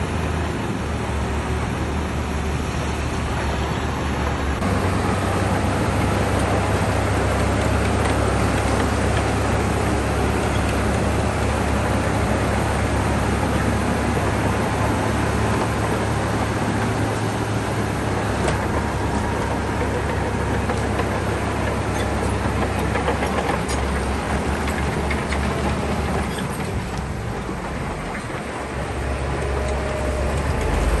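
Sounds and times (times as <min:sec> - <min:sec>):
bulldozer diesel engine: 0:00.0 - 0:31.0.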